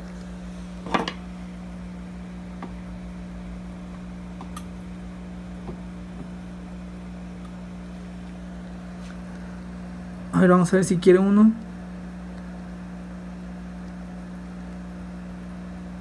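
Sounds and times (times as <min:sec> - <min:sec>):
aquarium pump hum: 0:00.0 - 0:16.0.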